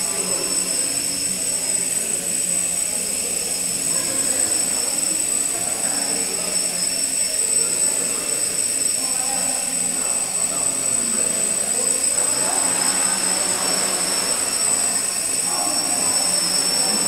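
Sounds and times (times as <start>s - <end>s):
quadcopter motors buzzing: 0.0s - 17.0s.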